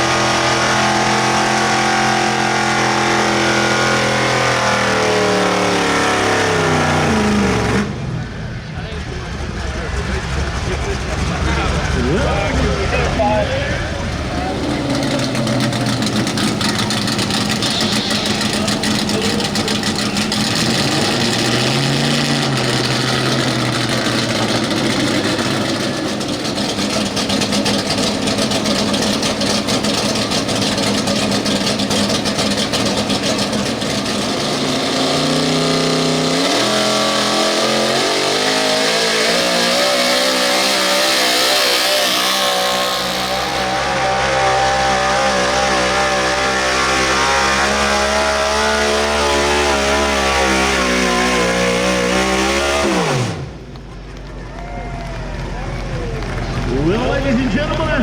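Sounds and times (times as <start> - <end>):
truck engine at full throttle: 0.0 - 58.0.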